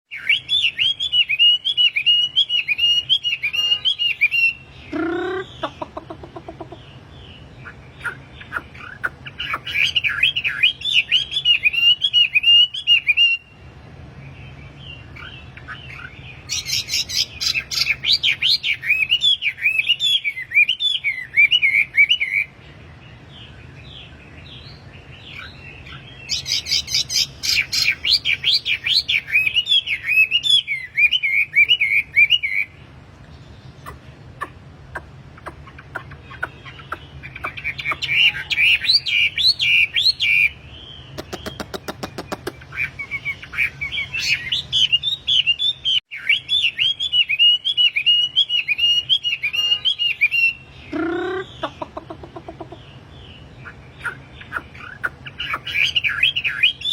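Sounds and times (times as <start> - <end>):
bird rapid high chirps: 0.1 - 56.9.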